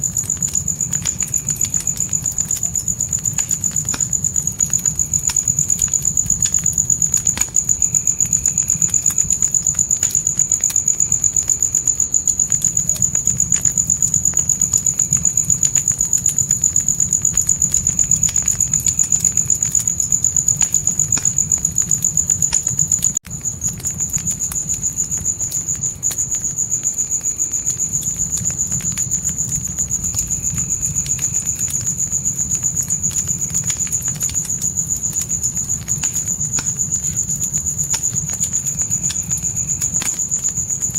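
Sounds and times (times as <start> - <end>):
campfire crackling: 0.0 - 40.9
crickets chirping: 0.0 - 40.9.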